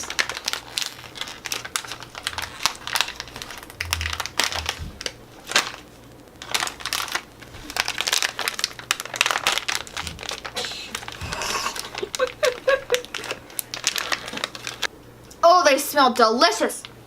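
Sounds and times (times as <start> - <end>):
snack wrapper crinkling: 0.0 - 14.9.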